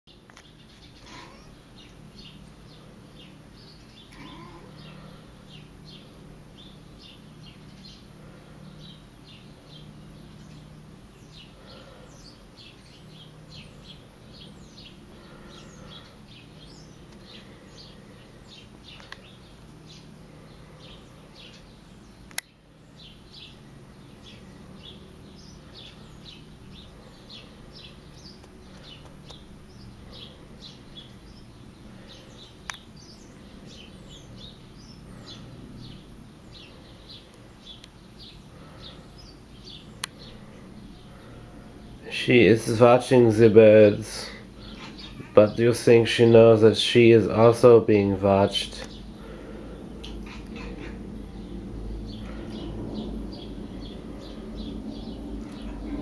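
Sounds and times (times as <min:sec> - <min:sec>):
low steady hum: 0:00.1 - 0:56.0
small birds chirping: 0:00.1 - 0:56.0.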